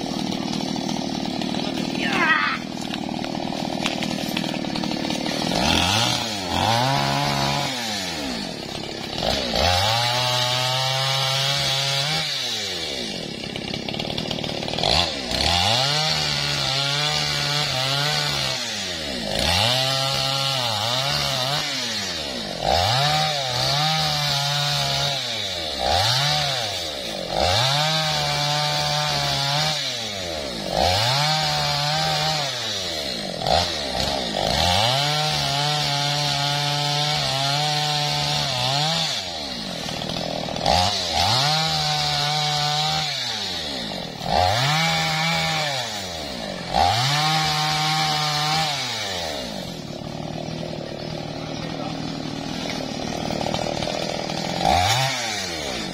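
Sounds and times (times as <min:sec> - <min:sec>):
chainsaw cutting logs: 0:00.0 - 0:55.9.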